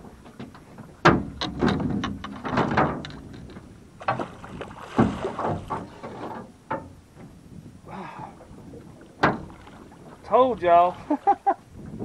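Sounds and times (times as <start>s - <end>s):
knocks and thumps on boat: 0.0s - 12.0s.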